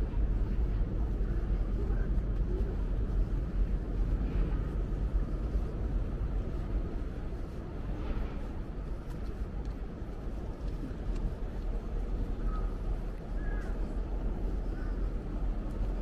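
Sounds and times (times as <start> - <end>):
city background rumble: 0.0 - 16.0.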